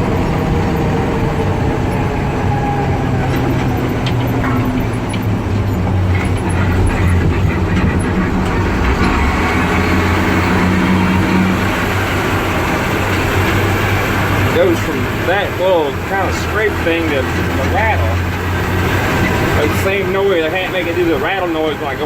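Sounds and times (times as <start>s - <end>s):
diesel truck engine droning: 0.0s - 22.0s
drivetrain ticks and scraping rattle: 0.0s - 22.0s.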